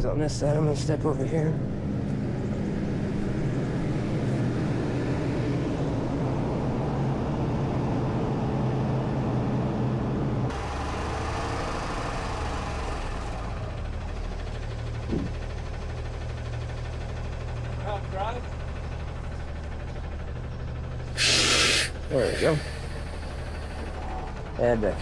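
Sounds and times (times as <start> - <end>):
truck diesel engine idling: 3.2 - 25.0.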